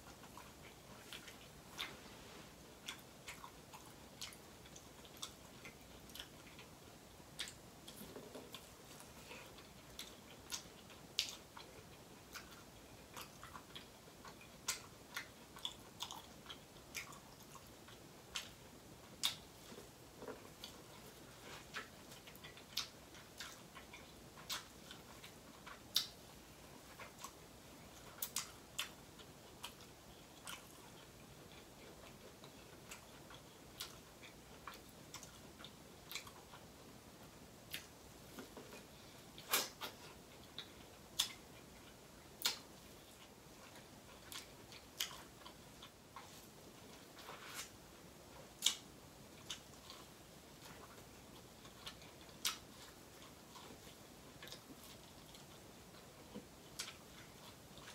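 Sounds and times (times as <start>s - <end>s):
corn on the cob being chewed: 0.0s - 57.9s.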